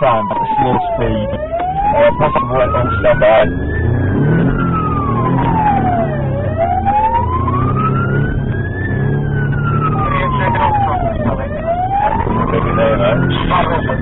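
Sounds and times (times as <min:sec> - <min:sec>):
engine and road noise: 0:00.0 - 0:14.0
police siren wailing: 0:00.0 - 0:14.0.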